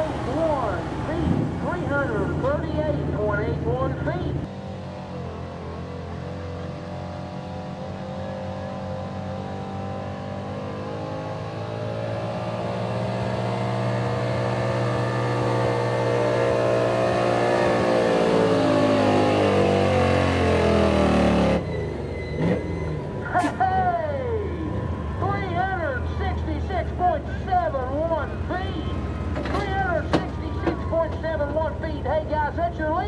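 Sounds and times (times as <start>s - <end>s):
pickup truck engine at high revs: 0.0s - 30.4s.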